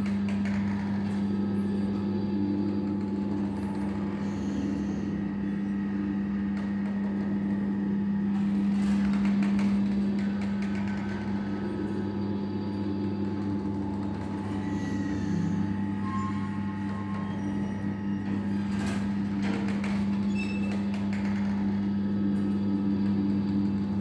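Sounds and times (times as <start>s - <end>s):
electric motor hum: 0.0s - 24.0s.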